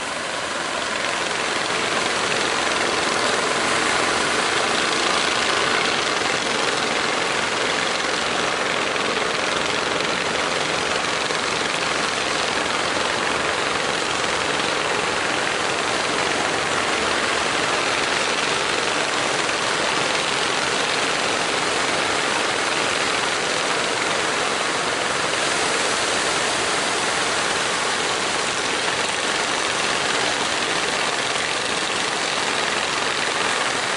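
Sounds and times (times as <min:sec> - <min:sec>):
boat engine running: 0:00.0 - 0:33.9
waves breaking: 0:00.0 - 0:33.9.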